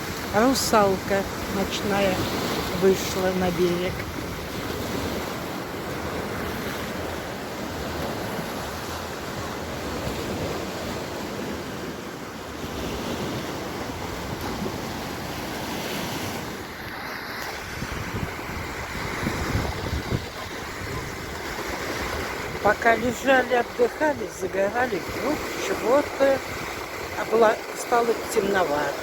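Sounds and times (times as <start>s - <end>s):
sea waves breaking on beach: 0.0s - 29.0s
wind on microphone: 1.2s - 27.3s.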